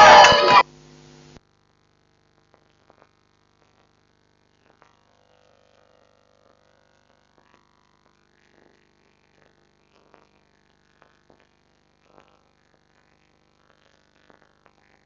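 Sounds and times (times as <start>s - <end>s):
faint mains hum: 0.0s - 15.0s.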